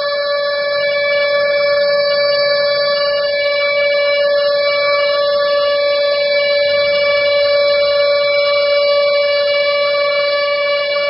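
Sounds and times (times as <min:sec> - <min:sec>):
fire siren steady tone: 0:00.0 - 0:11.0.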